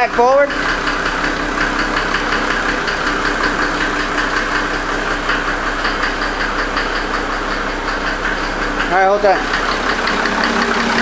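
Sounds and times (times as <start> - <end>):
diesel engine knocking: 0.0 - 11.0.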